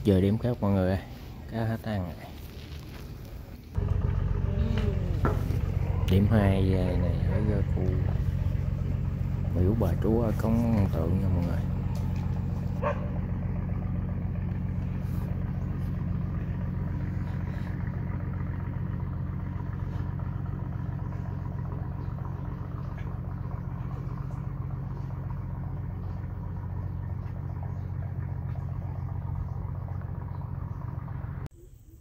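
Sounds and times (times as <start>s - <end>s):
motorbike engine idling: 2.4s - 31.5s.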